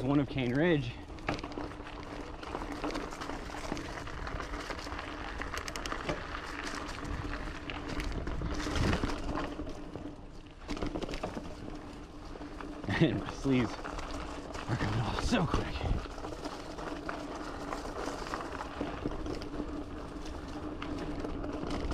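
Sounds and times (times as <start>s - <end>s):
bike clicks and rattles: 0.0s - 21.9s
bike tyres on dirt trail: 0.0s - 21.9s.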